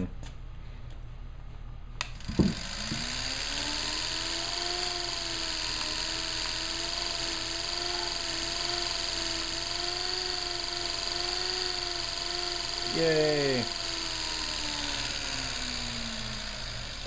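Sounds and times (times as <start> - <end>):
electric motor humming: 2.0 - 17.0.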